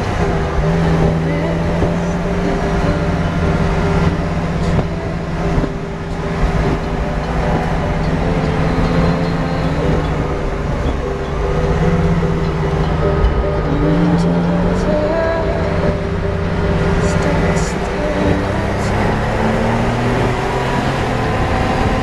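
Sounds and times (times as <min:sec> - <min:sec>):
car engine running: 0:00.0 - 0:22.0
tyre and road noise: 0:00.0 - 0:22.0.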